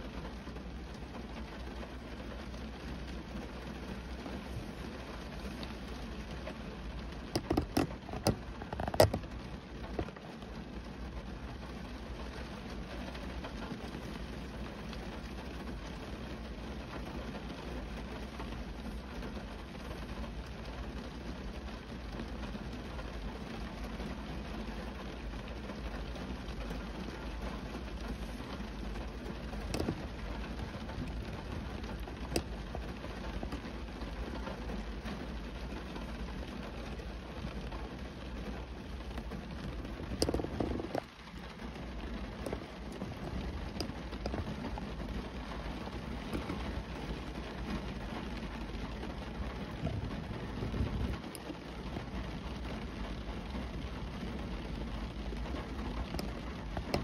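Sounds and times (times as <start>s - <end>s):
constant low rumble: 0.0s - 57.0s
rain on car glass and body: 0.0s - 57.0s.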